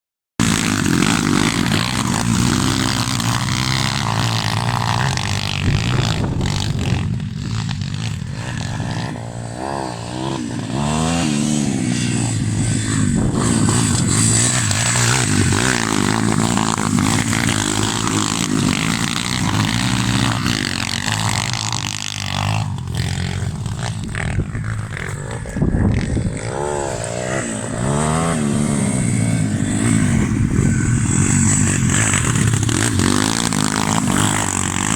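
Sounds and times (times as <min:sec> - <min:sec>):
pitbike engine revving: 0:00.4 - 0:34.9.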